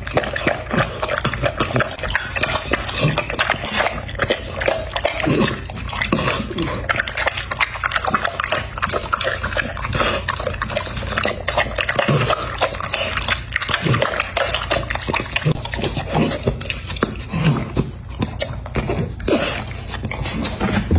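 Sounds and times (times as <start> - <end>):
dog licking food from glass bowl: 0.0 - 20.9.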